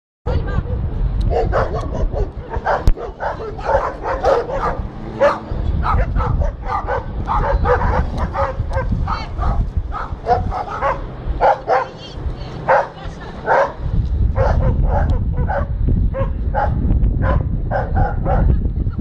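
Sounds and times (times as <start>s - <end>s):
dogs barking rapidly: 0.3s - 12.0s, 12.6s - 18.5s.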